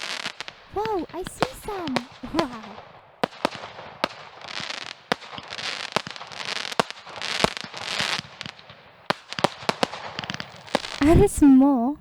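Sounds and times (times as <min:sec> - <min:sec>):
fireworks cracks and bangs: 0:00.0 - 0:11.9
fireworks crackling hiss: 0:00.0 - 0:12.0.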